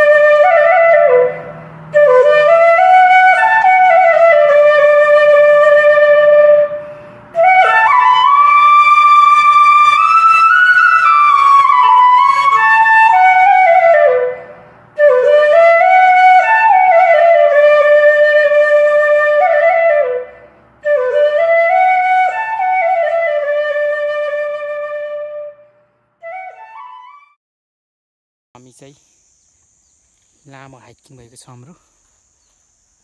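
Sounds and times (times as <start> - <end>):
solo wind instrument melody: 0.0 - 27.4.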